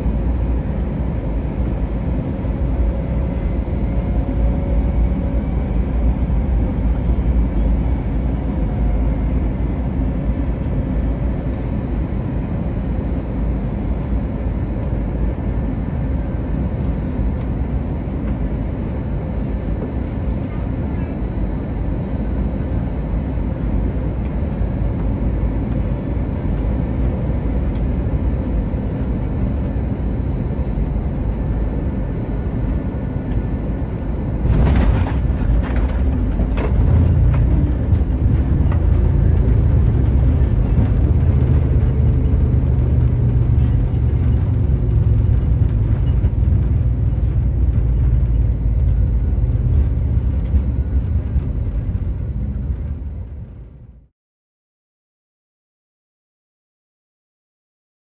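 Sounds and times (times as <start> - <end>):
aircraft engine and airflow noise: 0.0 - 54.1
low rumble of engines and wheels: 0.0 - 54.1.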